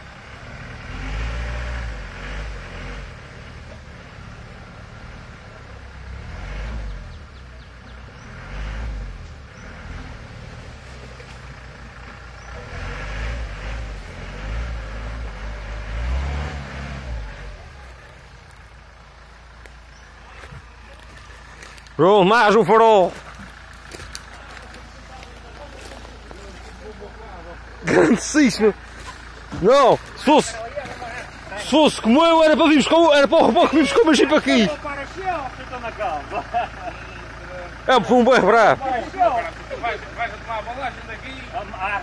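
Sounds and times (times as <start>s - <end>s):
engine revving: 0.0s - 42.0s.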